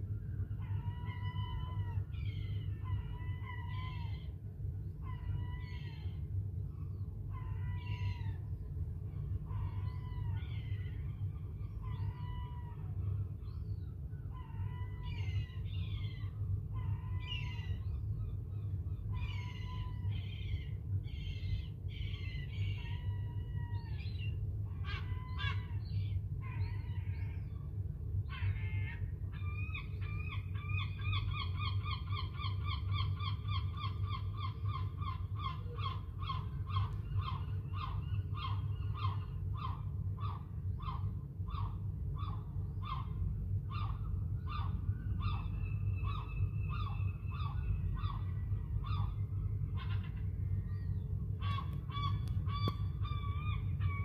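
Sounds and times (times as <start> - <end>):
gulls calling: 0.0 - 54.0
steady low rumble: 0.0 - 54.0.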